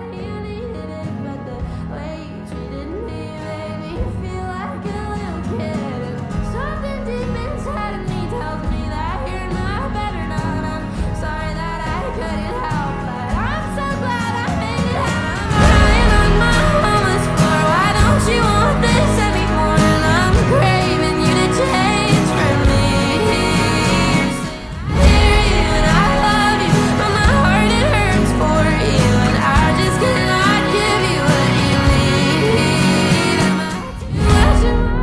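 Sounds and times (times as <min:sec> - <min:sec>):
person singing pop song: 0:00.0 - 0:35.0
steady bass line: 0:06.4 - 0:35.0.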